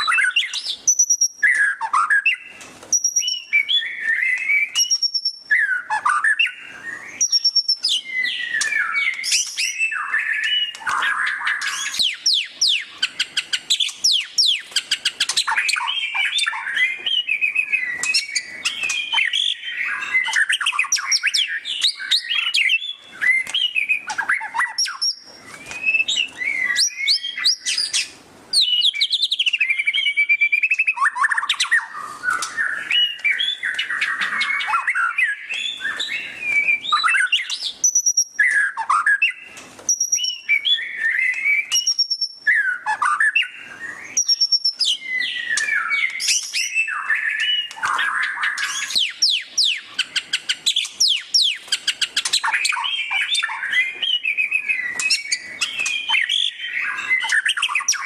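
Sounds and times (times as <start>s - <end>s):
songbird whistling and trilling: 0.0s - 58.0s.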